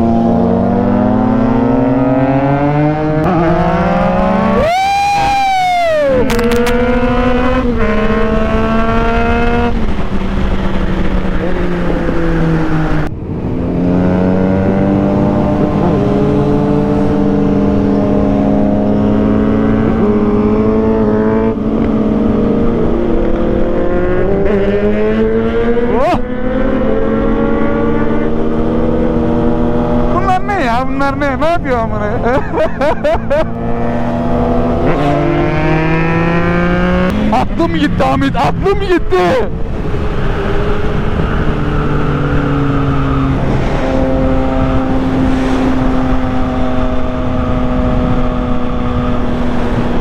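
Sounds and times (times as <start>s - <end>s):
wind rushing: 0.0s - 32.8s, 33.5s - 50.0s
motorcycle engine revving high: 0.0s - 50.0s.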